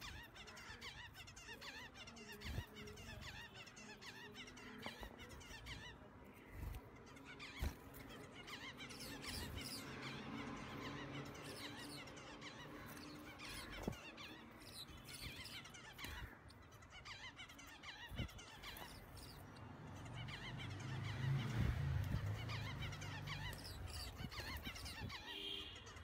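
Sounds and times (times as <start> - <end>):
finches chirping: 0.0 - 26.0.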